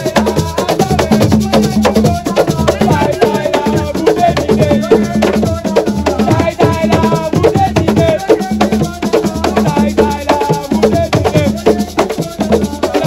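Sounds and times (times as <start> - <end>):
voices singing: 0.0 - 13.0.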